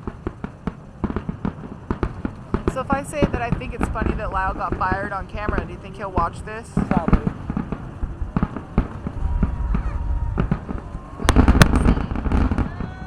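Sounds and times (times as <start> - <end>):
fireworks cracking: 0.0 - 13.0
low fireworks booms: 0.0 - 13.0.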